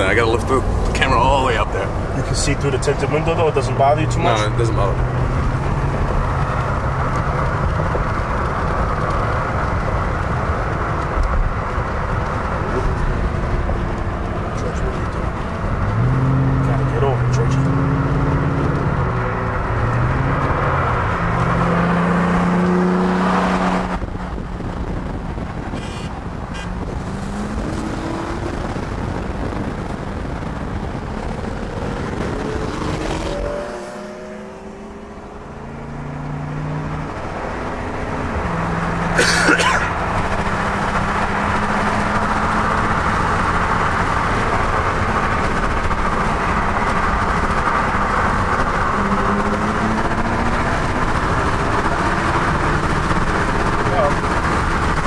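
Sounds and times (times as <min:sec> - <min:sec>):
car engine accelerating through gears: 0:00.0 - 0:55.0
road and wind noise: 0:00.0 - 0:55.0.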